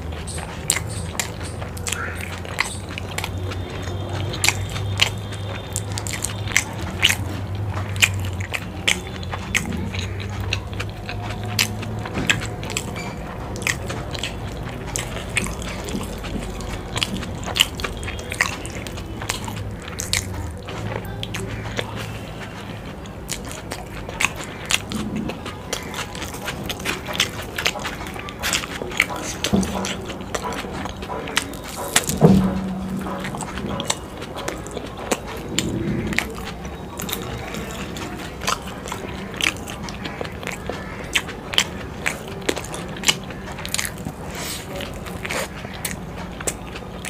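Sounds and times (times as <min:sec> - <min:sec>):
person chewing: 0:00.0 - 0:47.0
wet mouth clicks: 0:00.0 - 0:47.0.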